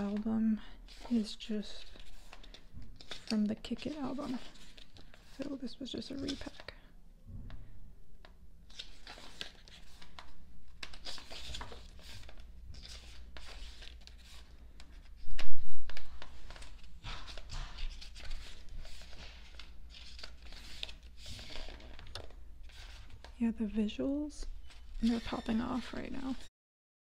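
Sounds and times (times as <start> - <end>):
pages rustling and crinkling: 0.0 - 6.8, 8.6 - 26.5.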